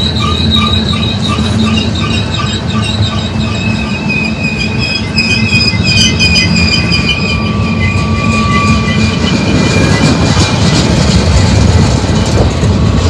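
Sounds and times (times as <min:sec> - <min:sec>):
high-pitched wheel squeal: 0:00.0 - 0:10.6
train wheels rumbling on rail: 0:00.0 - 0:13.0.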